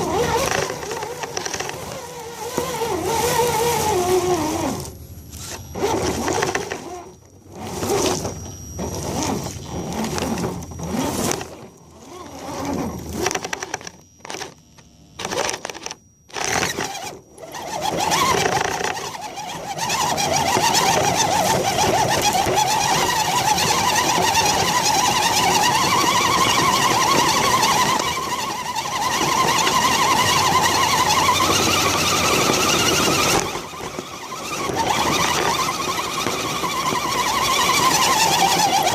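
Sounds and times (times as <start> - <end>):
toy car electric motor whining: 0.0 - 38.9.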